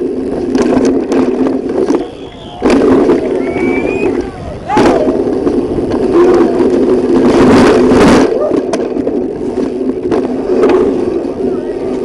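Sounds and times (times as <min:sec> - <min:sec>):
bike knocking and rattling: 0:00.0 - 0:12.0
wind and road noise: 0:00.0 - 0:12.0.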